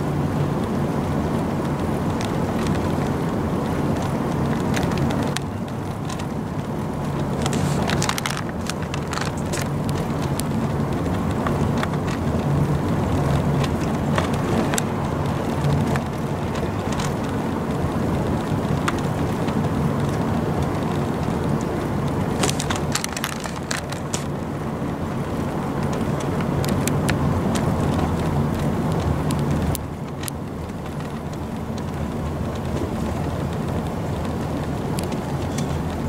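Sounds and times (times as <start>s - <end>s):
car road and engine noise: 0.0s - 36.0s
light ticks: 1.7s - 24.4s, 25.4s - 36.0s.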